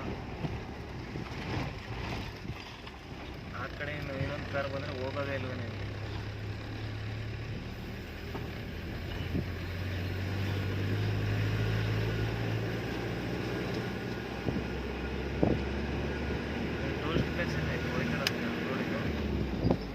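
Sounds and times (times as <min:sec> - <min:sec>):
engine humming: 0:00.0 - 0:19.9.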